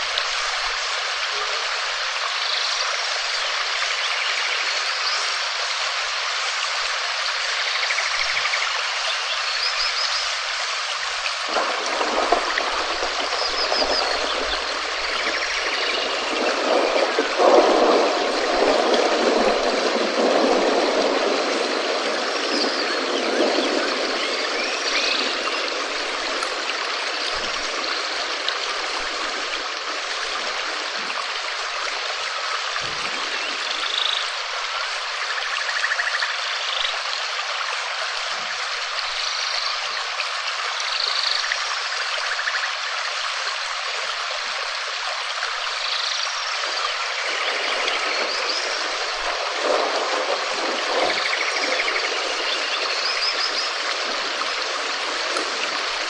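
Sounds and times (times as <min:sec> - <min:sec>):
steady rain: 0:00.0 - 0:56.0
water trickling: 0:00.0 - 0:56.0.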